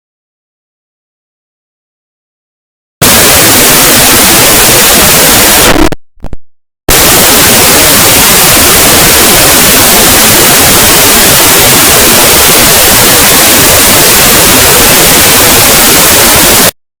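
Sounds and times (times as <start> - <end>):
loud distorted static noise: 3.0 - 17.0.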